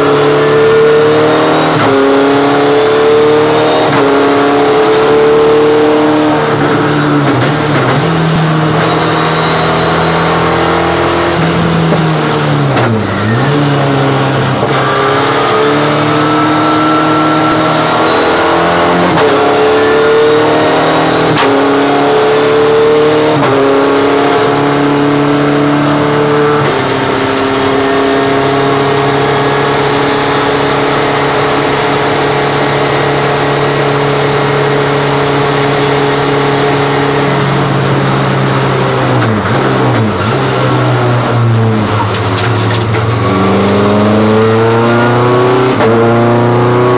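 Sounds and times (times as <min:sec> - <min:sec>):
race car engine: 0:00.0 - 0:46.9.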